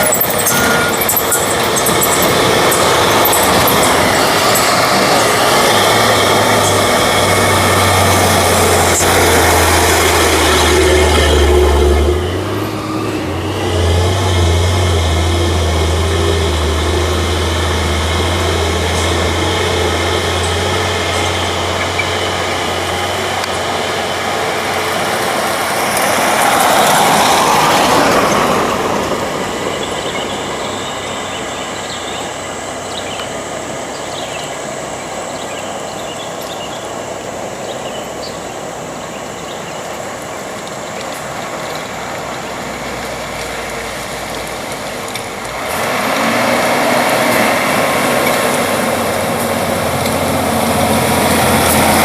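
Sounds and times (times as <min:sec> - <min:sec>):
rush of passing truck: 0:00.0 - 0:52.0
truck diesel engine droning: 0:00.0 - 0:52.0.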